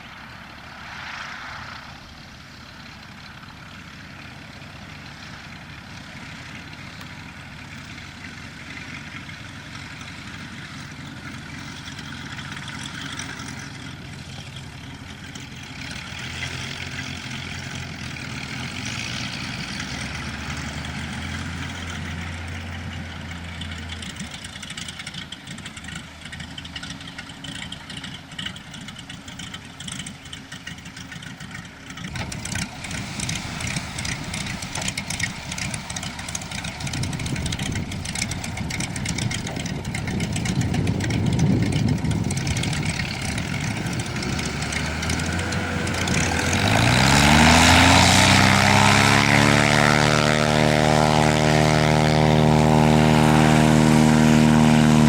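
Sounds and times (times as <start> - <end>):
plane piston engine running: 4.1 - 55.0.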